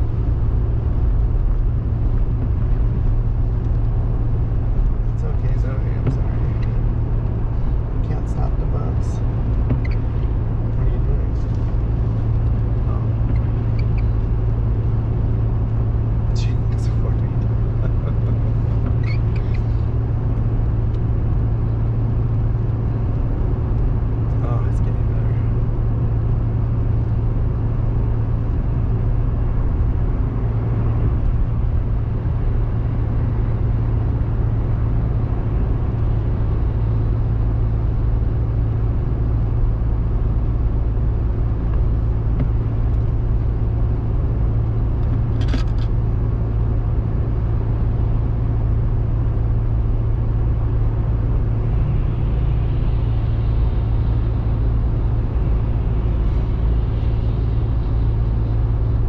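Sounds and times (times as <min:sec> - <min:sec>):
car road noise drone: 0:00.0 - 0:59.0.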